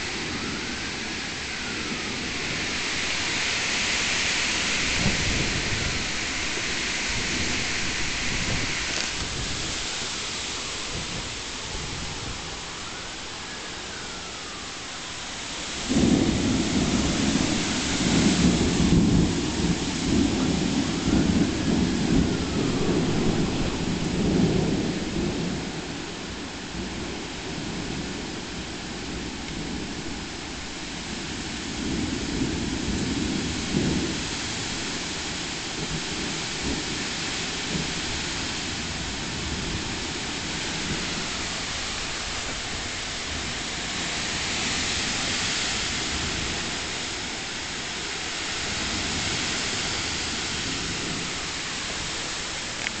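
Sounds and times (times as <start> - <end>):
rain hiss: 0.0 - 53.0
thunder rumbling: 0.0 - 53.0.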